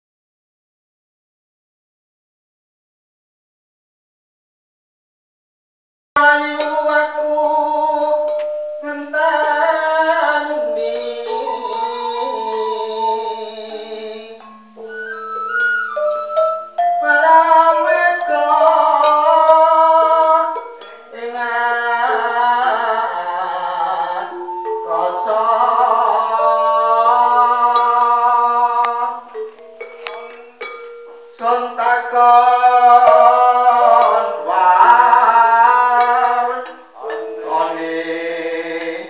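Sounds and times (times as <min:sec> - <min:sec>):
person singing: 0:06.2 - 0:15.2, 0:15.9 - 0:39.0.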